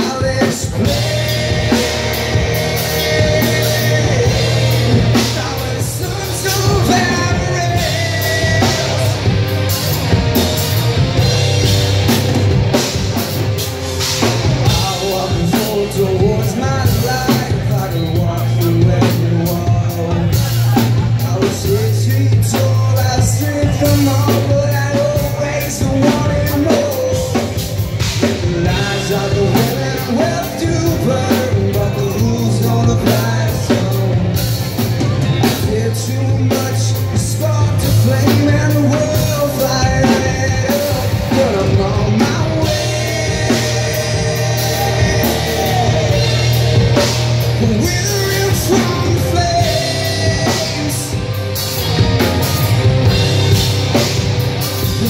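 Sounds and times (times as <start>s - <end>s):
bass guitar: 0.0s - 55.0s
drum kit: 0.0s - 55.0s
electric guitars: 0.0s - 55.0s
singer's vocal: 0.0s - 55.0s.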